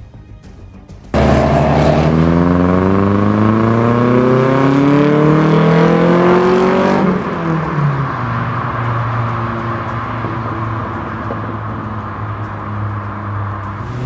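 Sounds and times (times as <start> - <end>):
car engine accelerating: 1.1 - 14.0.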